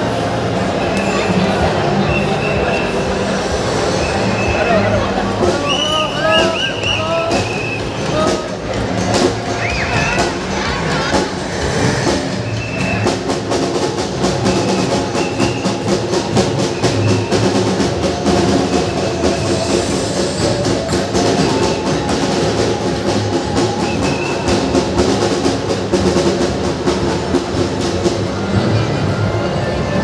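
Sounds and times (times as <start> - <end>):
loud music with drum beat: 2.1 - 28.4.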